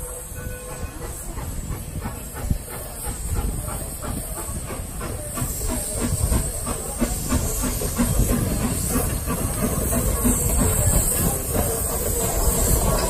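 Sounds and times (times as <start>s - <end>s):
steam hissing: 0.0s - 13.0s
steam locomotive chuffing: 0.0s - 13.0s.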